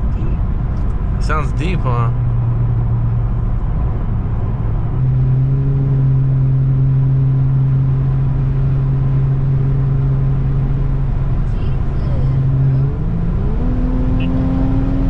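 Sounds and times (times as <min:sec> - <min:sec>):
car engine and exhaust droning: 0:00.0 - 0:15.0.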